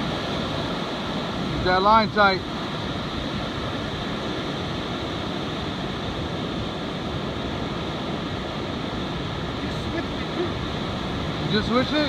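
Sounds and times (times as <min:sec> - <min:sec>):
ocean surf on beach: 0:00.0 - 0:12.0.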